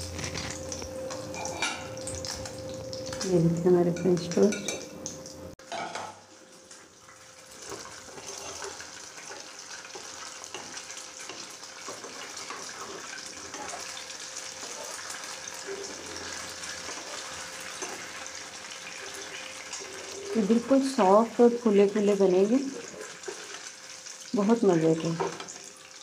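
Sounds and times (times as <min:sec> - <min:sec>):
bread frying in oil sizzling: 0:00.0 - 0:26.0.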